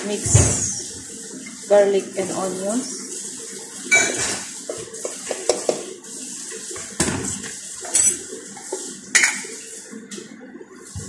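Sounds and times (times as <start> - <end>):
running tap: 0.0 - 11.0.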